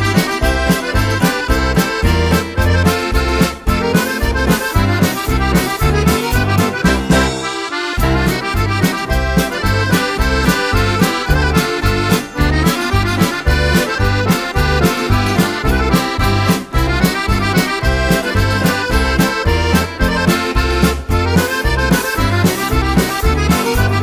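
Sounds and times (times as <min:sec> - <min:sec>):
accordion playing a polka: 0:00.0 - 0:24.0.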